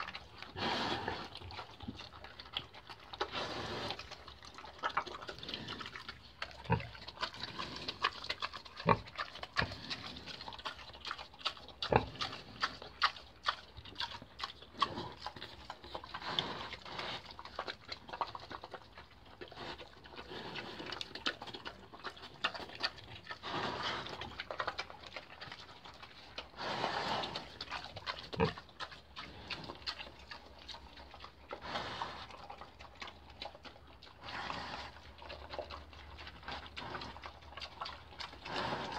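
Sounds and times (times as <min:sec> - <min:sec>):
pig chewing and smacking: 0:00.0 - 0:38.9.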